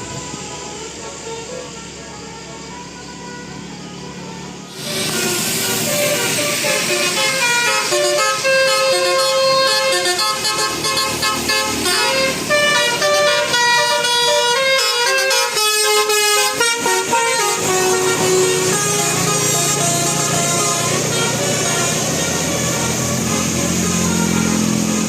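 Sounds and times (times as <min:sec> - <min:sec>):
musical bus air horn melody: 0:00.0 - 0:25.0.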